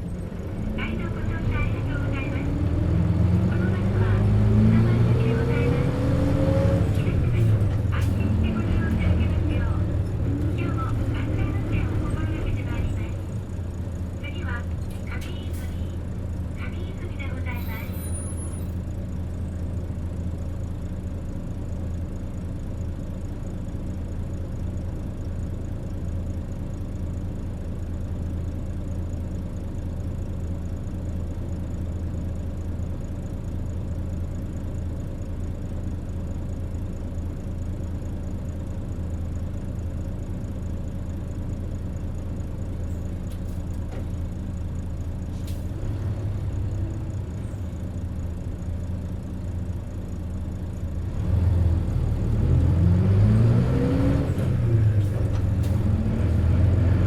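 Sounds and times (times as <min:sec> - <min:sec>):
bus diesel engine humming: 0:00.0 - 0:57.0.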